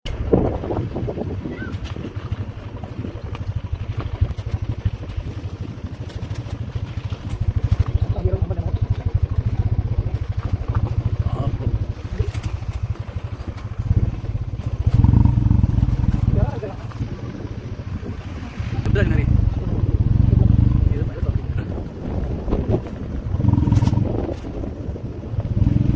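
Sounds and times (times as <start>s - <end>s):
vehicle engine rumbling: 0.0s - 25.9s
wind buffeting microphone: 0.0s - 25.9s.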